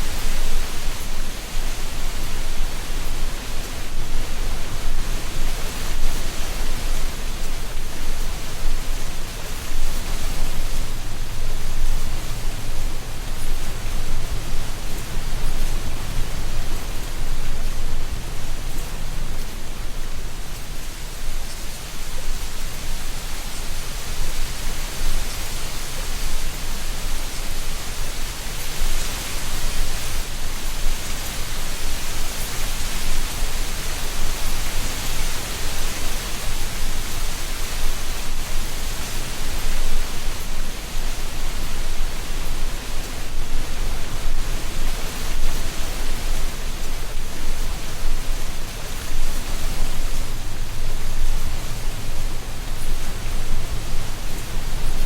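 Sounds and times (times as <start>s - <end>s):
wind through tree tops: 0.0s - 55.0s.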